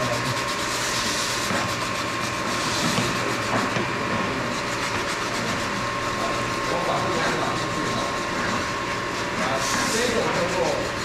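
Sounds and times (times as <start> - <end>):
constant thin whine: 0.0 - 11.0
machine running with fast pulsing: 0.0 - 11.0.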